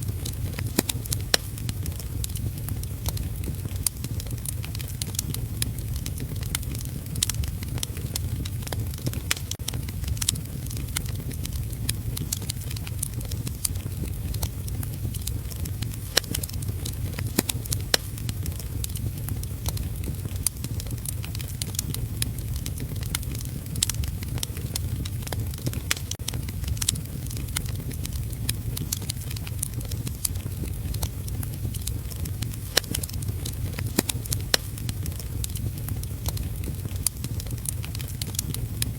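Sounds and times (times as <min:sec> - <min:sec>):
low rumble: 0:00.0 - 0:38.9
steady rain: 0:00.0 - 0:38.9
wood fire crackling and popping: 0:00.0 - 0:38.9.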